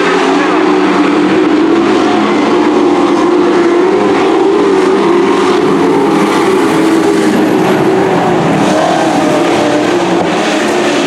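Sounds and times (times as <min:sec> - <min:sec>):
racing truck engines droning: 0:00.0 - 0:11.0.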